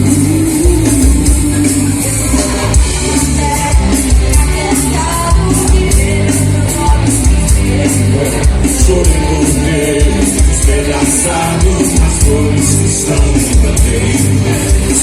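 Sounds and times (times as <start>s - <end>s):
live pop-rock band playing: 0.0s - 15.0s
person singing: 0.0s - 15.0s.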